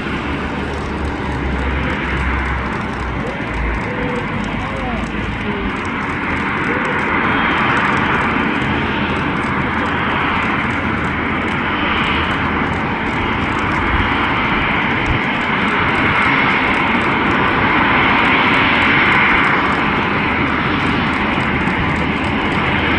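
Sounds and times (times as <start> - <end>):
jet engines rushing: 0.0 - 22.9.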